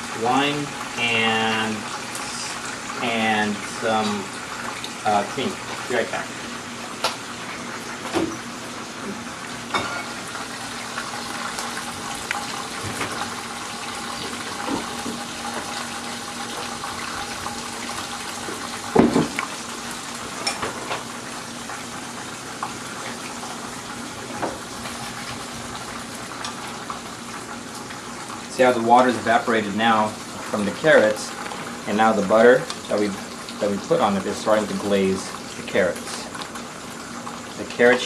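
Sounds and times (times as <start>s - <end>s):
pan sizzling: 0.0s - 38.0s.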